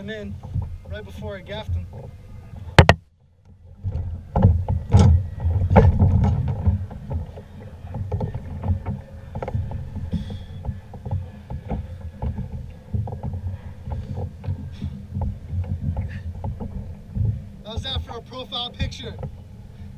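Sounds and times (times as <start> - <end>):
knocks and clicks on a hull: 0.0 - 19.6
water rumbling around a kayak: 0.0 - 19.9
wind: 0.0 - 19.9.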